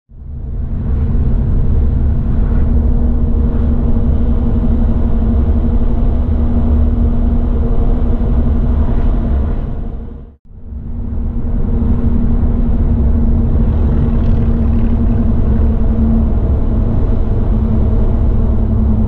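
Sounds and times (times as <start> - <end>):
car road rumble inside cabin: 0.1 - 19.0
steady hum: 0.2 - 19.0.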